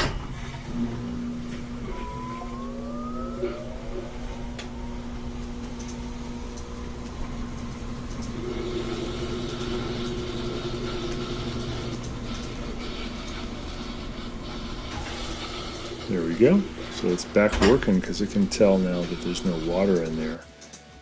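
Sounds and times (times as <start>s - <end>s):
washing machine spinning: 0.0s - 21.0s
rising motor whine: 0.2s - 20.4s.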